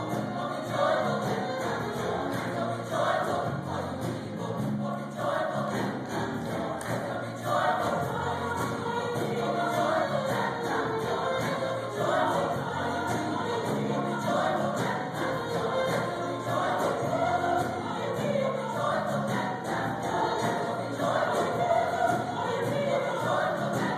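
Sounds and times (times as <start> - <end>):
choir singing gospel: 0.0 - 23.9.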